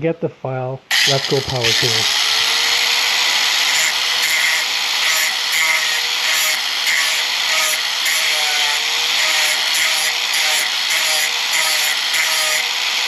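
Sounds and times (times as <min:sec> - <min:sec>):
power tool grinding steel: 0:00.9 - 0:13.0.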